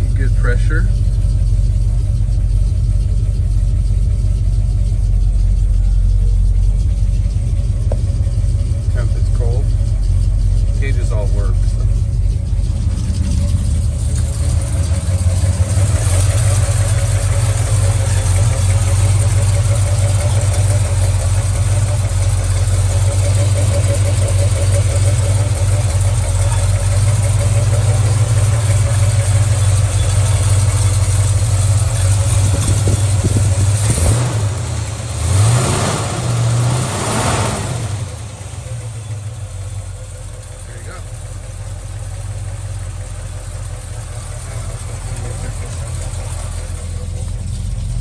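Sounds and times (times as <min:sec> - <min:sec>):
truck engine idling and revving: 0:00.0 - 0:48.0.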